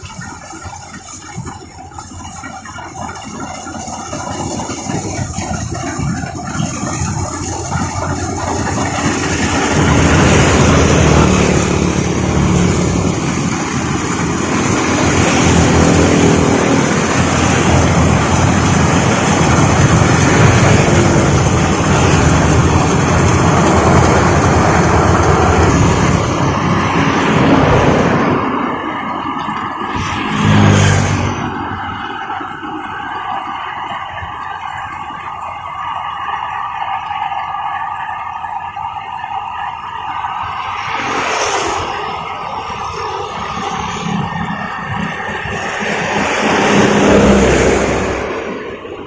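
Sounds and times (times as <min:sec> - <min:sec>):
combine harvester running: 0:00.0 - 0:49.0.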